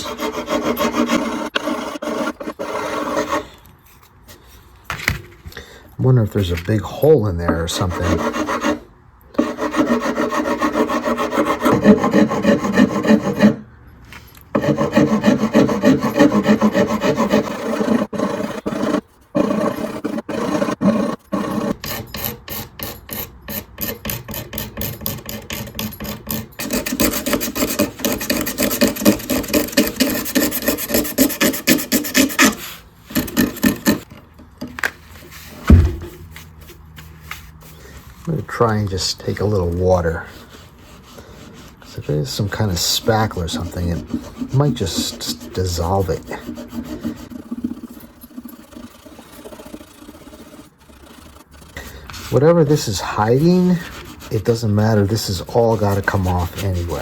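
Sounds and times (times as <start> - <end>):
hand file rasping: 0.0 - 3.5, 7.7 - 8.8, 9.4 - 13.6, 14.5 - 34.1, 39.3 - 57.0.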